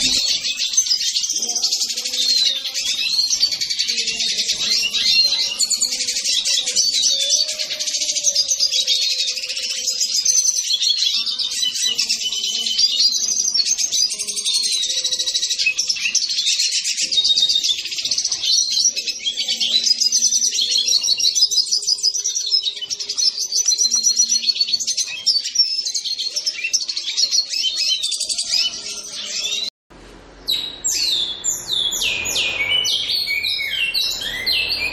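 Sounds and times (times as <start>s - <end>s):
songbirds singing: 0.0s - 29.7s, 30.3s - 34.9s.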